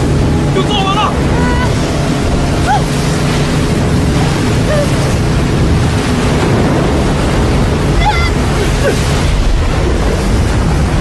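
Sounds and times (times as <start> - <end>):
heavy seas crashing: 0.0 - 11.0
low steady drone: 0.0 - 11.0
wind: 0.0 - 11.0.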